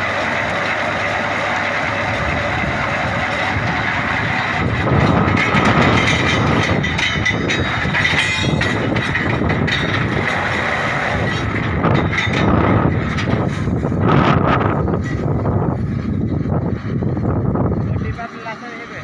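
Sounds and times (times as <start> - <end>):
rapid clatter: 0.0 - 16.6
drilling rig running: 0.0 - 19.0.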